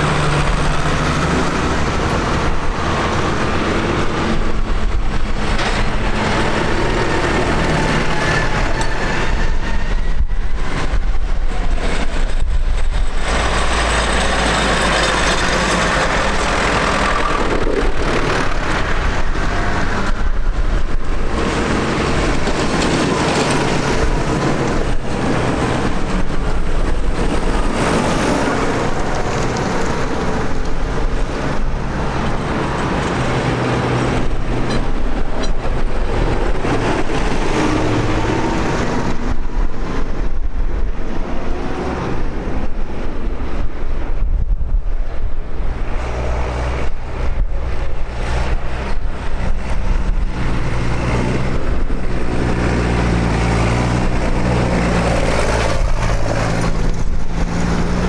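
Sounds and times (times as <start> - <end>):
tractor diesel engines running: 0.0 - 58.0.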